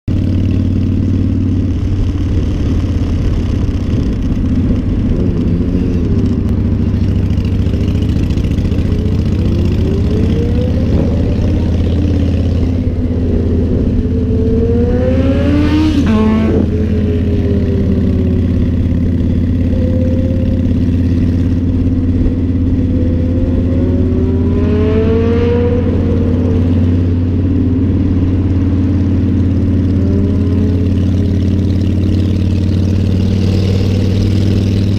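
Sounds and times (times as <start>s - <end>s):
motorcycle engine drone: 0.0s - 34.9s
engine rising and falling in pitch: 0.1s - 34.9s.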